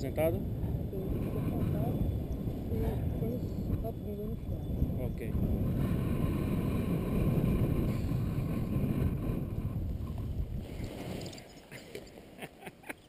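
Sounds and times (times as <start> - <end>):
wind rushing over microphone: 0.0 - 12.4.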